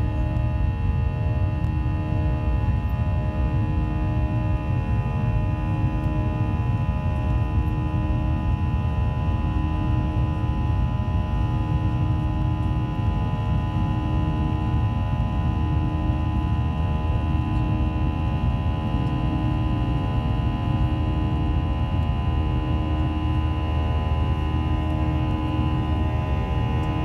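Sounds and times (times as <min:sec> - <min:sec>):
jet engines low rumble: 0:00.0 - 0:27.0.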